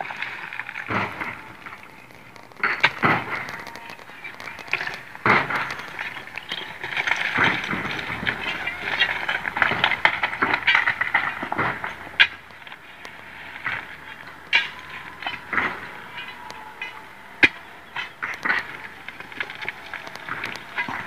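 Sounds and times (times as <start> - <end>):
rocks clattering and knocking: 0.0 - 21.0
sharp rock crack: 0.0 - 21.0.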